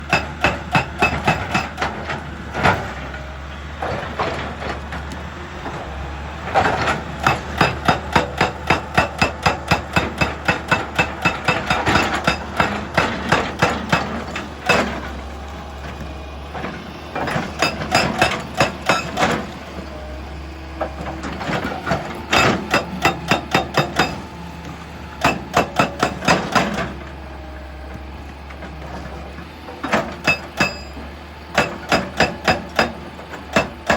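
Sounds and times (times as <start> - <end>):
hydraulic breaker hammering rock: 0.0 - 3.3, 6.5 - 20.0, 20.8 - 33.9
machine engine humming: 0.3 - 33.9.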